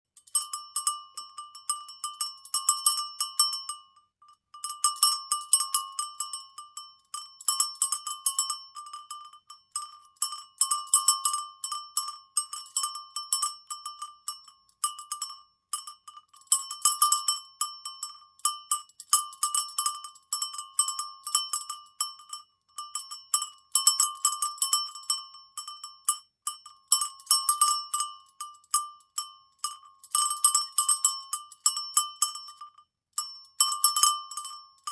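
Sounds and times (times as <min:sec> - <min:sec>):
cowbells clanking: 0:04.6 - 0:34.9.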